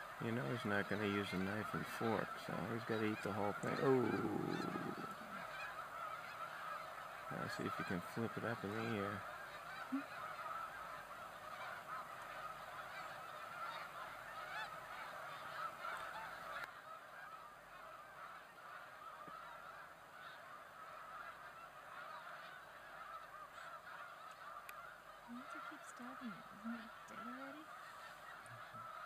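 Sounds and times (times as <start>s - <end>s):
flock of geese honking: 0.0s - 29.0s.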